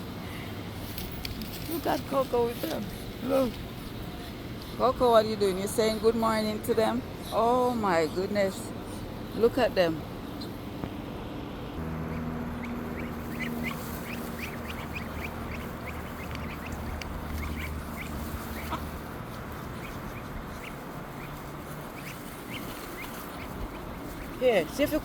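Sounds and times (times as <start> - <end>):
steady low hum: 0.0 - 25.0
ducklings peeping: 1.2 - 25.0.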